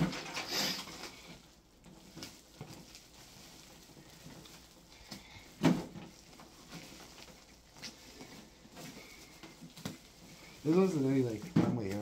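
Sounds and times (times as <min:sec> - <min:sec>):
handling clicks and rustles: 0:00.0 - 0:12.0.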